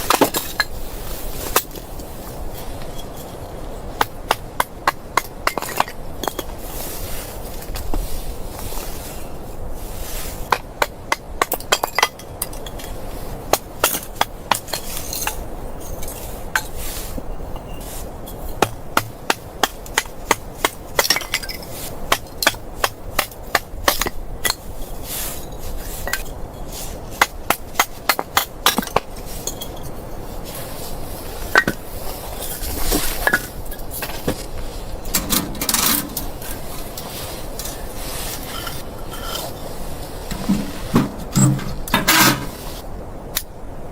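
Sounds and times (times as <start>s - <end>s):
steady background noise: 0.0s - 43.9s.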